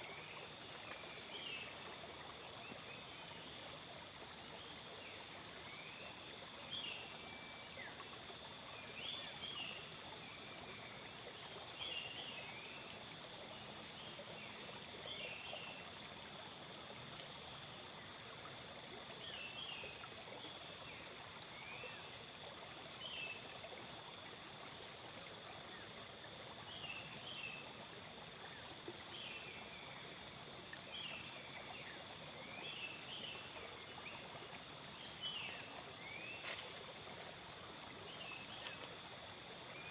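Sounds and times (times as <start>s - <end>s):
rapid pulsed insect chirping: 0.1s - 39.9s.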